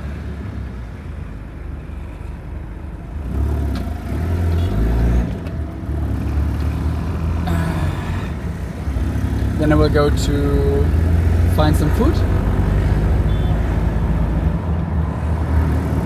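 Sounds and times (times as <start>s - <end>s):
engine and road noise: 0.0s - 16.0s.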